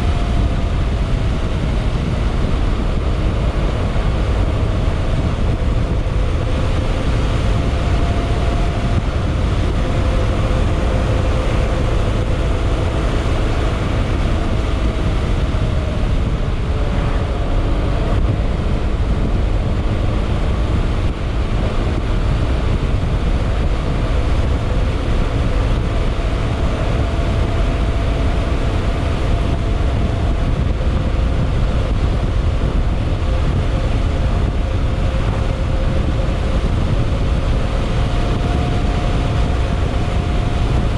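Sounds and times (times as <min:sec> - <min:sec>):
heavy low rumble: 0:00.0 - 0:40.9.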